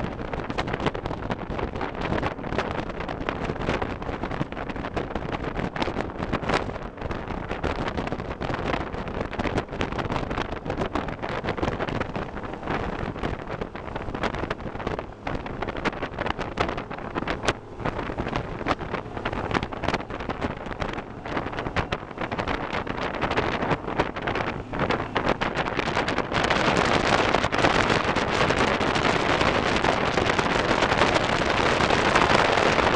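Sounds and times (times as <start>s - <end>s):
wind buffeting microphone: 0.0s - 32.9s
fire engine running: 6.0s - 32.9s.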